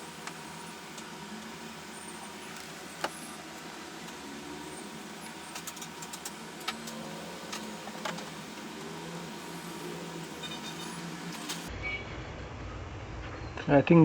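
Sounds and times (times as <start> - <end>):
bench equipment hum: 0.0 - 11.7.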